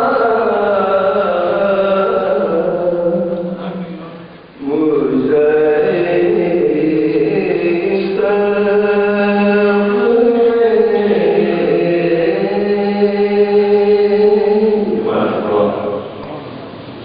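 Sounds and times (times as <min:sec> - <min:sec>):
man singing a mourning lament: 0:00.0 - 0:04.0, 0:04.6 - 0:16.0.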